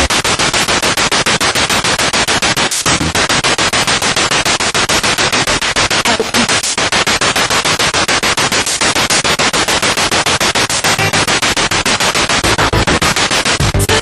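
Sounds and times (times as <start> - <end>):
broadcast fragments: 0.0 - 14.0
pulsing radio static: 0.0 - 14.0.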